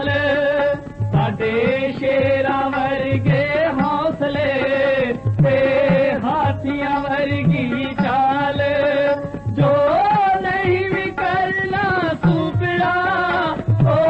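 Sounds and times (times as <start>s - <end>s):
hand drum beat: 0.0s - 14.0s
person singing ornamented melody: 0.0s - 14.0s.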